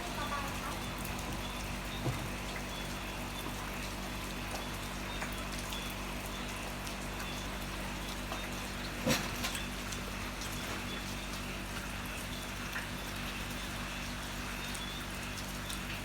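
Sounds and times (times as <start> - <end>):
heavy rain falling: 0.0 - 16.0
raindrops pattering close by: 0.0 - 16.0.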